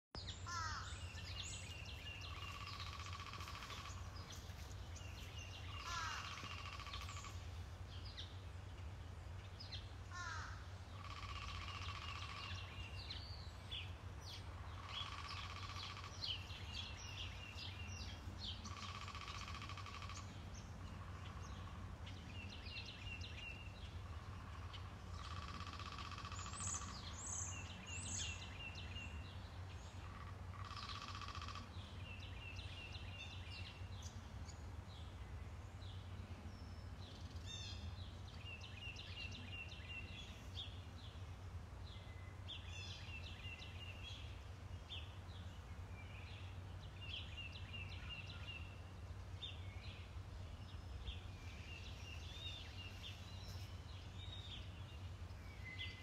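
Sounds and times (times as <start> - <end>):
songbirds singing: 0.2 - 56.0.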